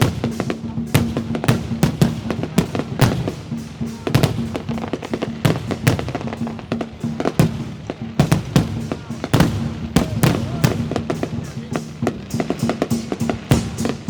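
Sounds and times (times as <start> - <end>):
background music: 0.0 - 14.0
fireworks bursting: 0.0 - 14.0.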